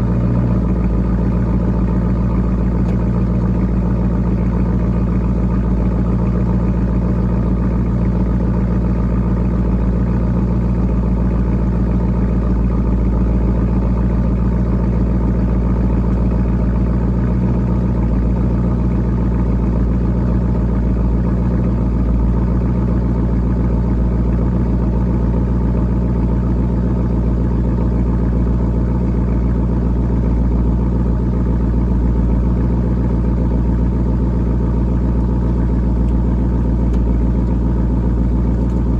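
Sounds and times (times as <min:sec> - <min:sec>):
raspy engine idling: 0:00.0 - 0:38.9.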